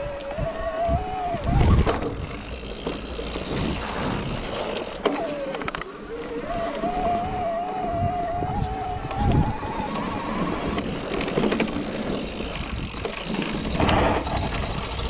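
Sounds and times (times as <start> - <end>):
electric motor whining: 0.0 - 14.2
tyre rumble and rattling: 0.0 - 15.0.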